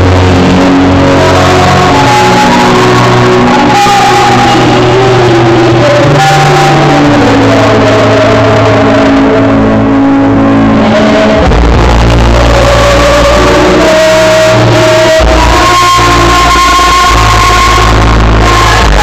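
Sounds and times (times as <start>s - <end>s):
backing track through a pa: 0.0s - 19.0s
woman singing into a microphone: 0.0s - 19.0s.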